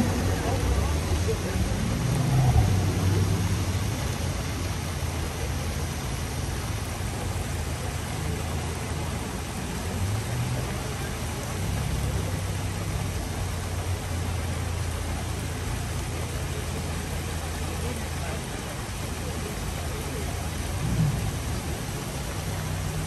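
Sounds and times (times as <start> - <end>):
steady background noise: 0.0 - 23.0
vehicle engine humming: 0.0 - 23.0.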